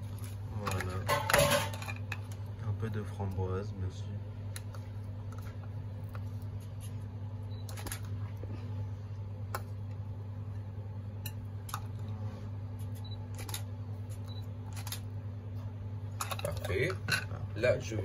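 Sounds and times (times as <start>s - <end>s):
low hum of kitchen equipment: 0.0s - 18.0s.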